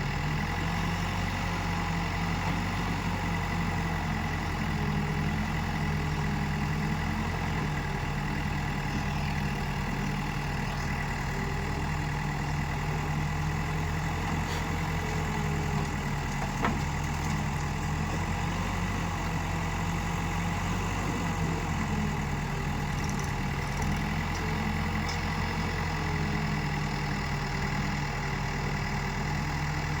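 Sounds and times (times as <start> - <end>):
diesel engine running at low revs: 0.0 - 30.0.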